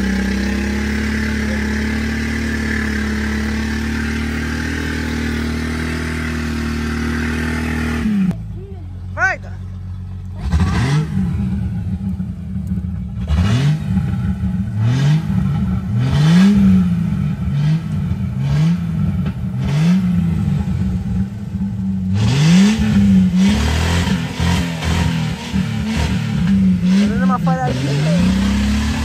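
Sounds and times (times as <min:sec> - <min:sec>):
engine revving: 0:00.0 - 0:08.6, 0:09.8 - 0:29.0.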